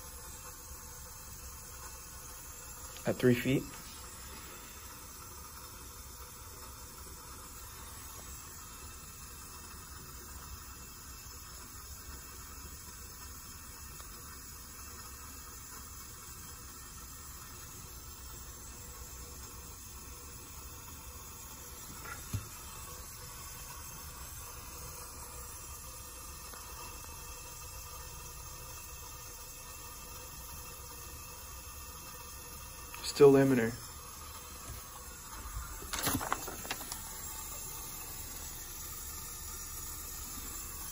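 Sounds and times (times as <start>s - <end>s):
background hiss: 0.0s - 40.9s.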